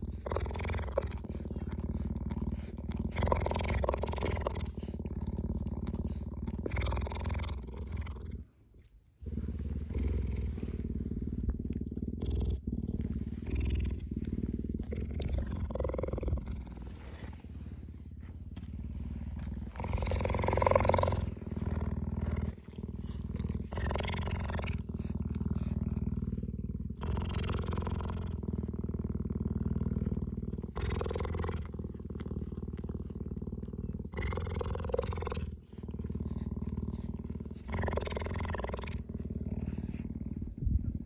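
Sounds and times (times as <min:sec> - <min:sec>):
cheetah purring: 0:00.0 - 0:41.0.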